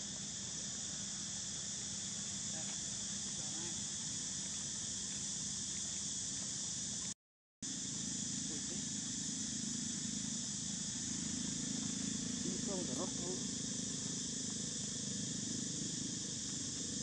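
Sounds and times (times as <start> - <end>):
insects droning: 0.0 - 17.0
outdoor background noise: 0.0 - 17.0.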